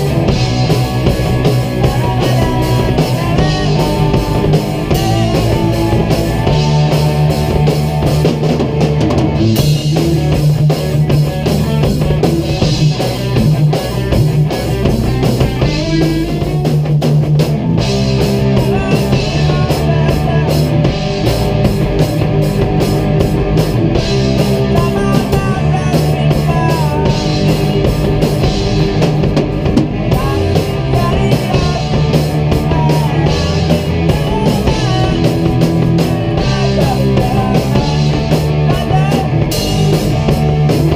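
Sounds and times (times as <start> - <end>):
drum kit: 0.0 - 40.9
electric guitars: 0.0 - 40.9.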